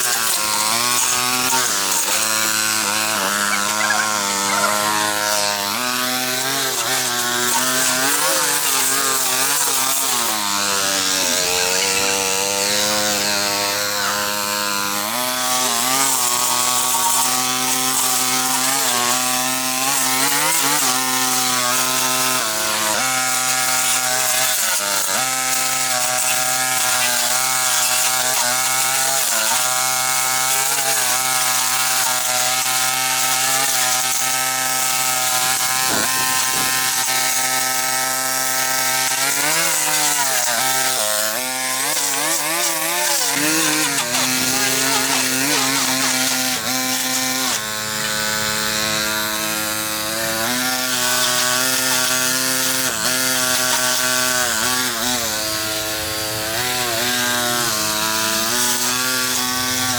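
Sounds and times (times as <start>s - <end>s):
small-engine power cutting tool: 0.0s - 59.9s.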